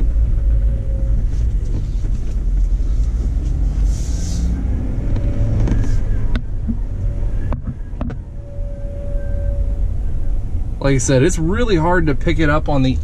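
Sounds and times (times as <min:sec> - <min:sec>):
faint vibration whine: 0:00.0 - 0:13.0
road rumble: 0:00.0 - 0:13.0.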